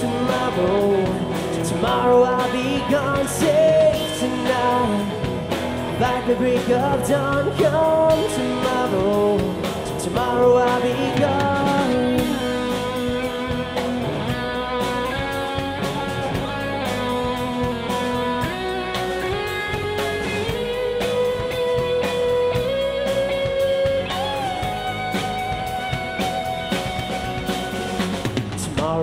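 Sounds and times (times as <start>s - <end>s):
drum kit cymbals: 0.0s - 29.0s
electric guitar melody: 0.0s - 29.0s
strummed guitar chords: 0.0s - 29.0s.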